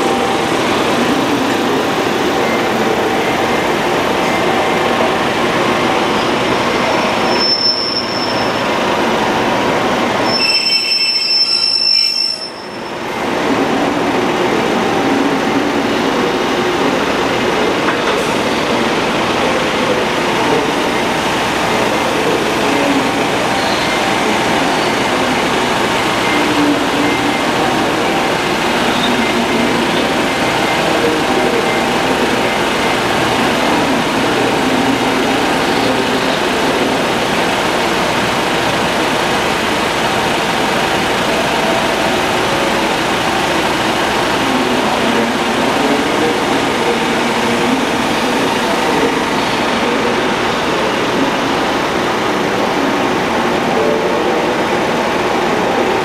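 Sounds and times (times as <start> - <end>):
diesel train engines droning: 0.0 - 56.0.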